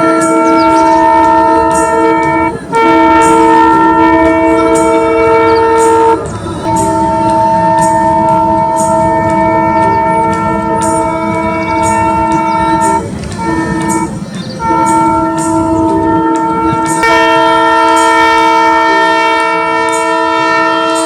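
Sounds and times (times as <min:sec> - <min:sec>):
locomotive air horn chord: 0:00.0 - 0:21.0
train rumble: 0:00.0 - 0:21.0.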